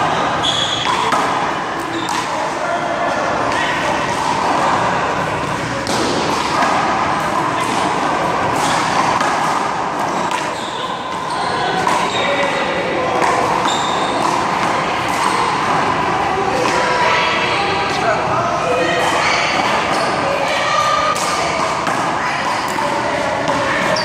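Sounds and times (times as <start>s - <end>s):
people chattering: 0.0s - 24.0s.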